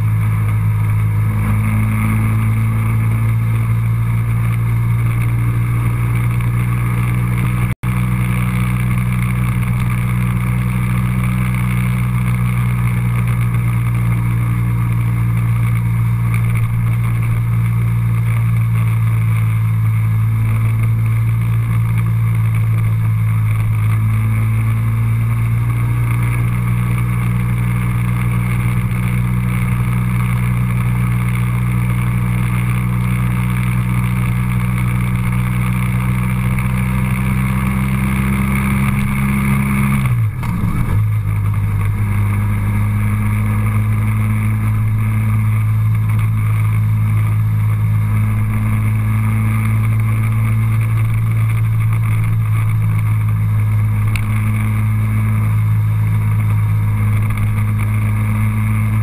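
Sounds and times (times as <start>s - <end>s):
vehicle engine drone: 0.0s - 59.0s.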